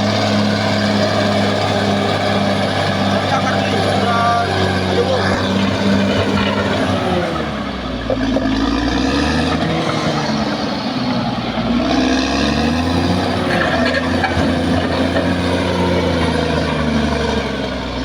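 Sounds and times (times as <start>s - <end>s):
bulldozer diesel engine running hard: 0.0s - 18.0s.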